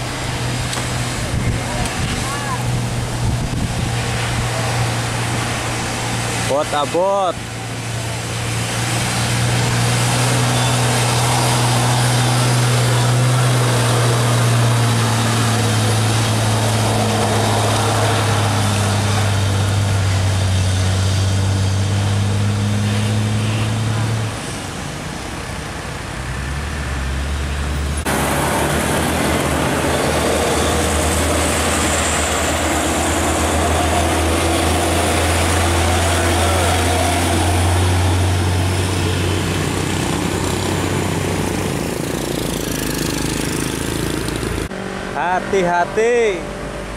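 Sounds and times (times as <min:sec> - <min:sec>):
diesel truck labouring uphill: 0:00.0 - 0:46.9
second diesel truck straining: 0:04.2 - 0:24.8, 0:26.2 - 0:45.6.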